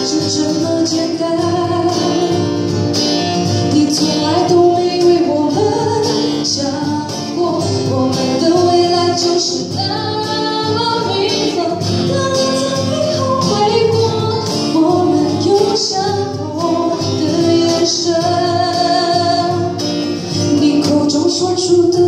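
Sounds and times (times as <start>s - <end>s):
woman singing into microphone: 0.0s - 2.8s, 3.4s - 22.0s
cajon drumming: 0.0s - 22.0s
strummed acoustic guitars: 0.0s - 22.0s.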